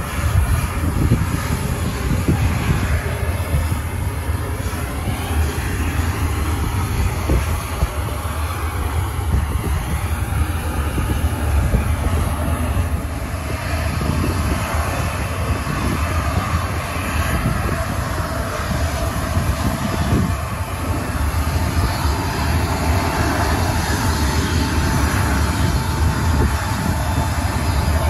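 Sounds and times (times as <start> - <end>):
faint turbine whine: 0.0 - 28.0
jet engines running: 0.0 - 28.0
wind buffeting microphone: 0.0 - 28.0.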